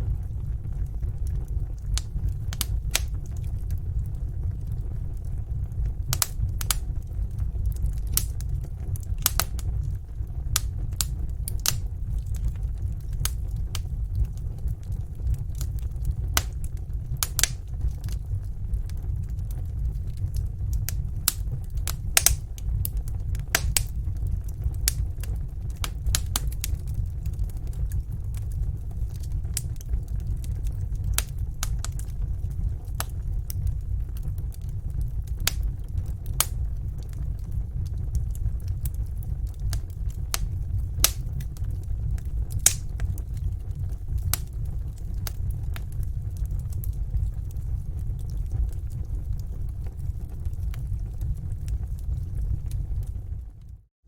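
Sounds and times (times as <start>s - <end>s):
low rumble: 0.0s - 53.9s
wood fire crackling and popping: 0.0s - 53.9s.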